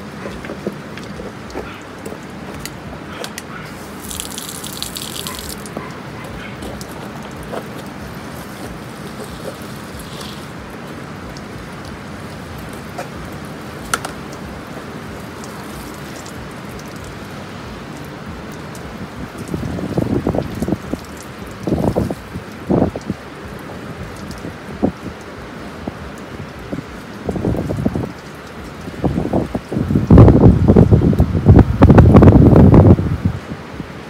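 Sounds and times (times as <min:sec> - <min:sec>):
hose water spraying: 0:00.0 - 0:33.1
water dripping and splashing: 0:00.0 - 0:34.0.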